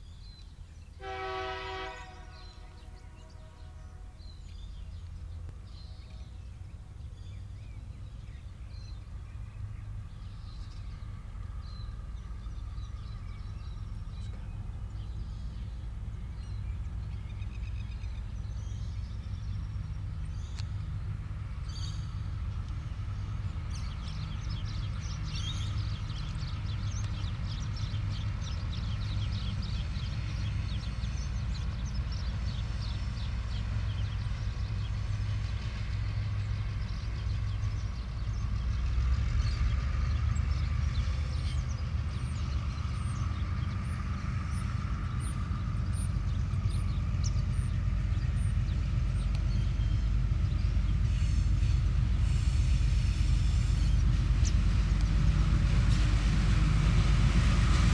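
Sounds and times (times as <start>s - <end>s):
diesel train engine rumble: 0.0s - 57.9s.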